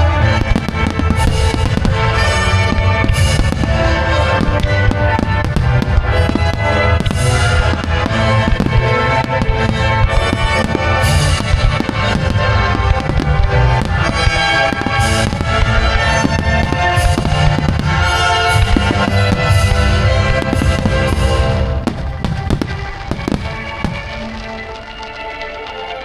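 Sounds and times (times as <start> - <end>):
fireworks bangs and crackles: 0.0 - 26.0
loud music: 0.0 - 26.0.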